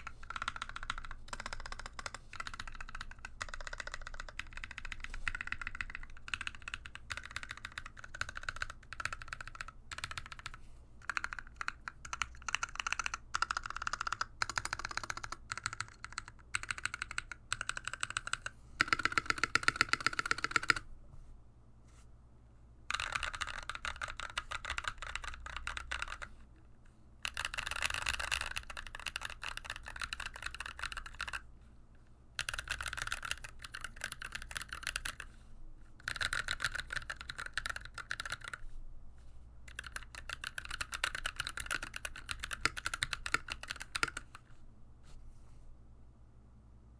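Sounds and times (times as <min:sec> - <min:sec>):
fast typing on mechanical keyboard: 0:00.0 - 0:20.8, 0:22.9 - 0:26.4, 0:27.2 - 0:31.5, 0:32.4 - 0:35.3, 0:36.0 - 0:38.6, 0:39.7 - 0:44.4.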